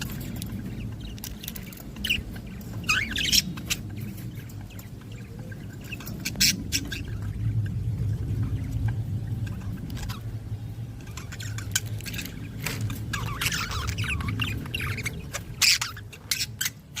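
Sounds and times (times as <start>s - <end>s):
budgerigars chirping and squawking: 0.0s - 17.0s
steady low hum: 0.0s - 17.0s.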